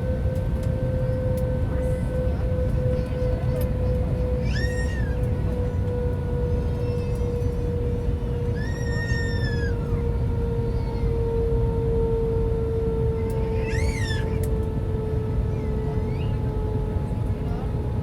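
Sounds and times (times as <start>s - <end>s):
airplane cabin engine rush: 0.0s - 18.0s.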